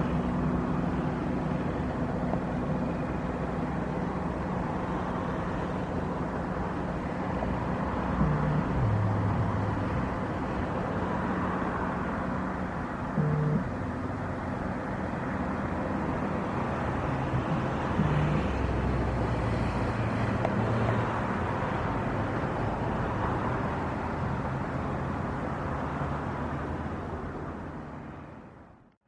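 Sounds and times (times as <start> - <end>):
steady engine noise: 0.0 - 28.4.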